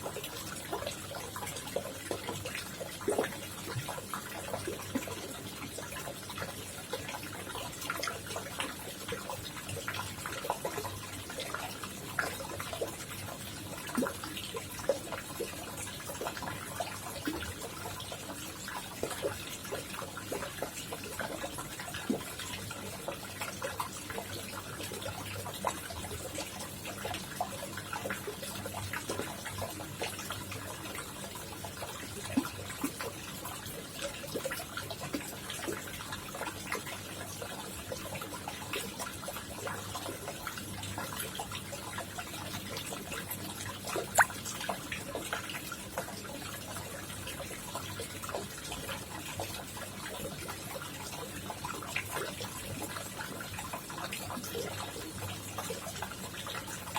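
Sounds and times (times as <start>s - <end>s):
water drips and plops: 0.0s - 56.9s
water trickling in a pond: 0.0s - 56.9s.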